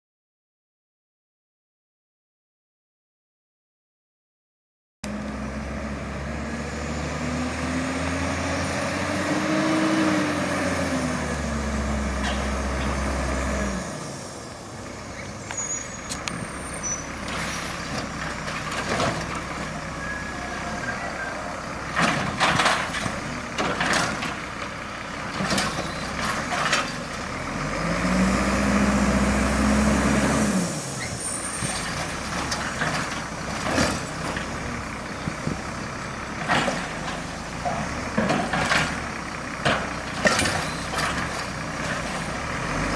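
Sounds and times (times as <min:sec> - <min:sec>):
garbage truck engine revving: 0:05.0 - 0:14.0, 0:17.2 - 0:42.9.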